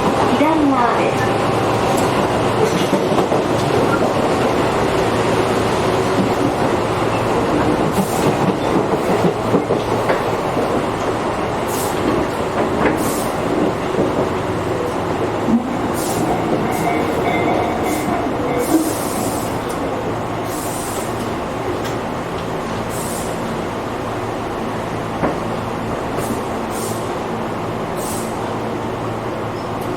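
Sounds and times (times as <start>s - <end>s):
train wheels and motors rumbling: 0.0s - 29.9s.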